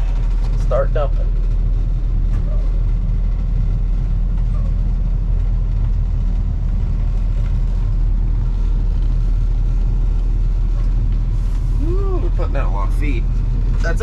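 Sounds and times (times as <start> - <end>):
pickup truck engine drone: 0.0 - 14.0.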